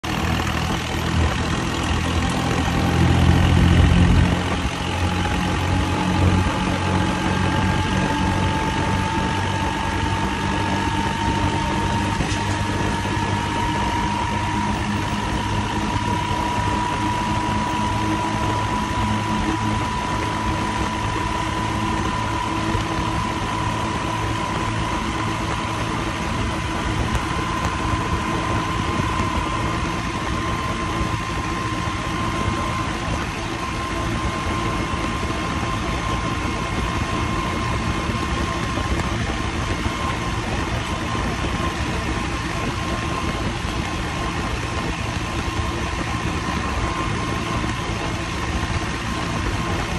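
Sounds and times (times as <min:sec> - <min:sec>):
high-pitched whine: 0:00.0 - 0:49.9
tractor diesel engine running: 0:00.0 - 0:49.9.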